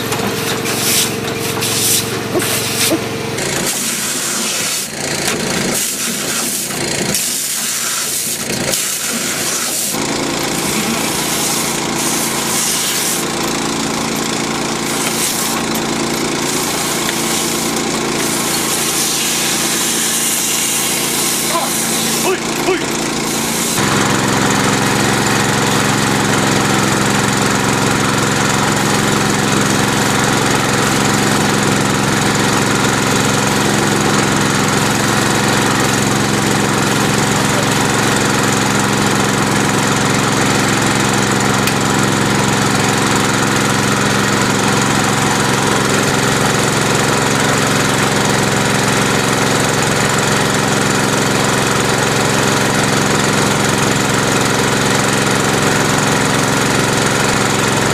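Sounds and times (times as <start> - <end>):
small engine droning: 0.0 - 57.9.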